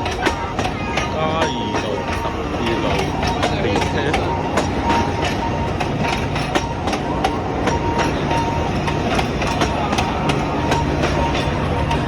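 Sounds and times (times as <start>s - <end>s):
train rumble: 0.0s - 12.0s
train wheels clicking over rail joints: 0.0s - 12.0s.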